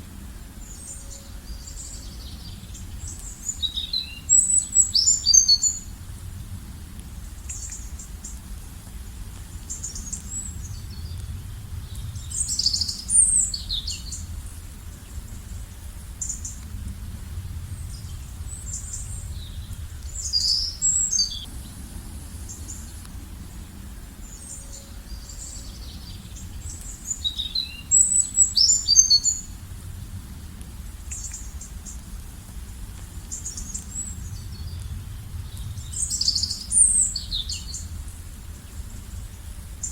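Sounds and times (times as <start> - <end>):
steady low rumble: 0.0 - 28.5, 29.3 - 39.9
songbirds chirping: 0.0 - 29.9, 30.6 - 39.9.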